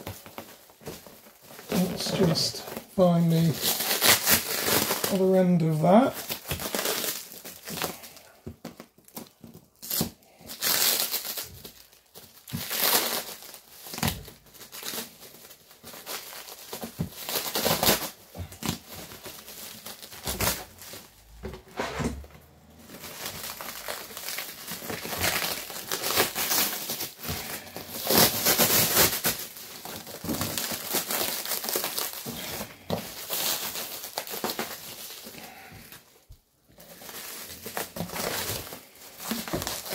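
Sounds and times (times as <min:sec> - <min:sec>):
plastic sheeting tearing and crumpling: 0:00.0 - 0:39.9.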